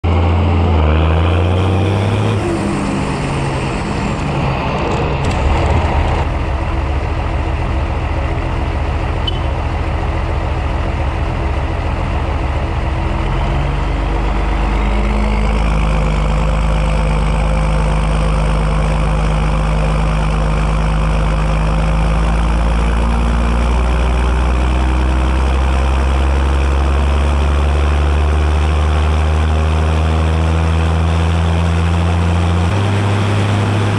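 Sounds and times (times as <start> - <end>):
tractor diesel engine idling: 2.6 - 33.9.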